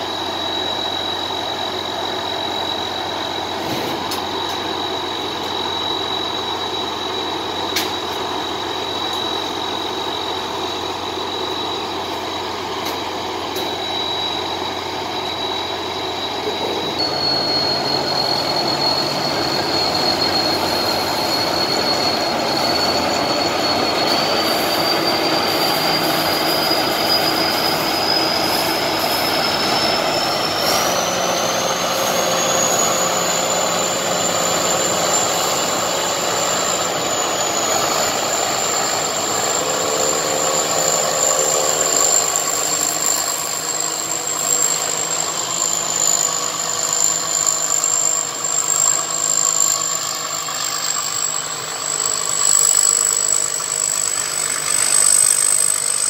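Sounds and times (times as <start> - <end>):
high machine whine: 0.0 - 56.0.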